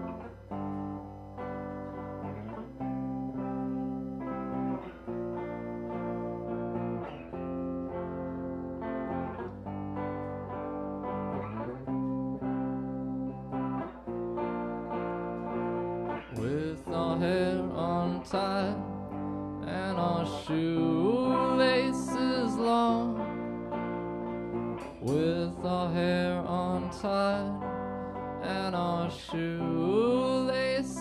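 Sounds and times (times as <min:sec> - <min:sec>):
electric guitars strumming: 0:00.0 - 0:31.0.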